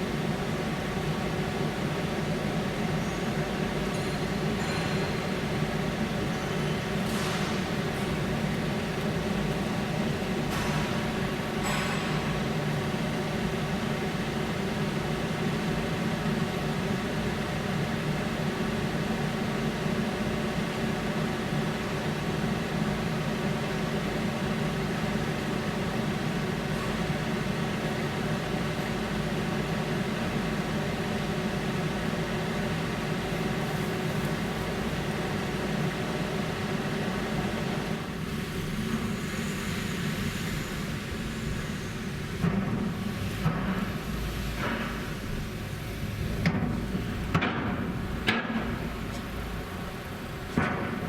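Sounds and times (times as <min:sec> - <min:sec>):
low mechanical hum: 0:00.0 - 0:51.0.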